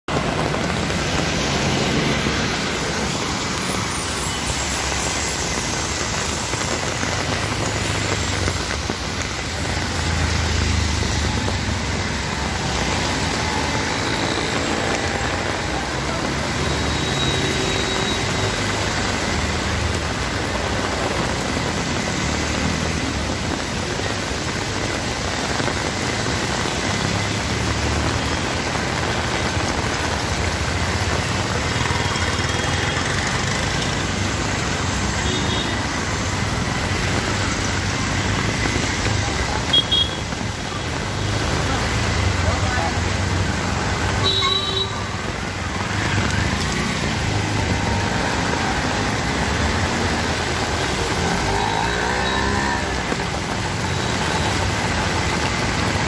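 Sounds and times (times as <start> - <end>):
heavy rain on wet street: 0.0 - 56.0
traffic engines rumbling: 0.0 - 56.0.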